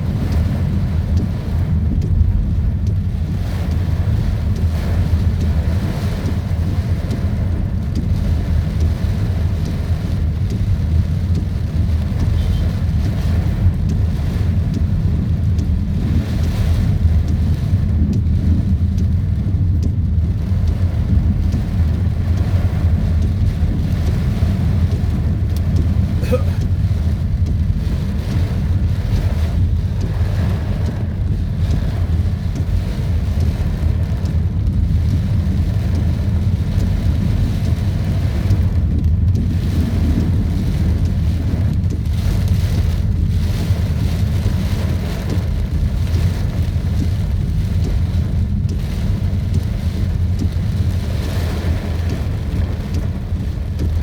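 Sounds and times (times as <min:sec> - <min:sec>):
deep low rumble: 0:00.0 - 0:54.0
heavy rain in strong wind: 0:00.0 - 0:54.0.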